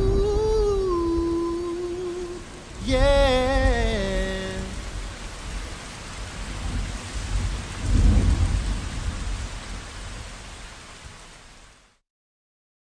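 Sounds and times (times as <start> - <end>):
thunder rumble: 0.0 - 10.7
steady rain: 0.0 - 12.0.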